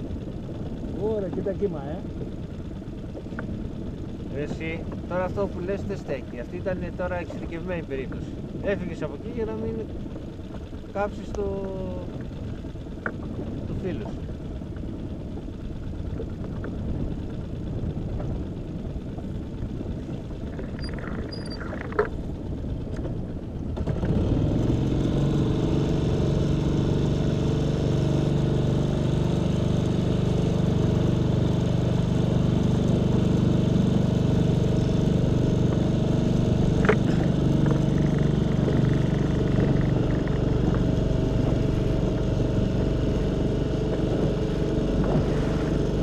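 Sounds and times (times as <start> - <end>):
small outboard motor running: 0.0 - 46.0.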